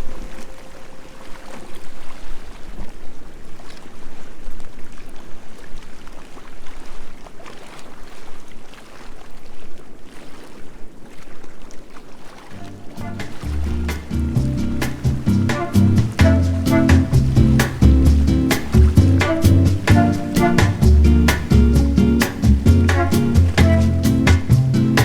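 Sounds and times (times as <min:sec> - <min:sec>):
sea waves washing onto shore: 0:00.0 - 0:25.0.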